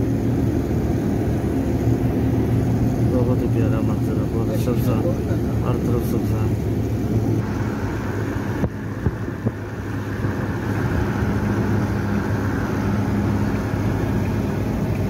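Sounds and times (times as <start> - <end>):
car engine hum: 0.0 - 15.0
road and tyre rumble: 0.0 - 15.0.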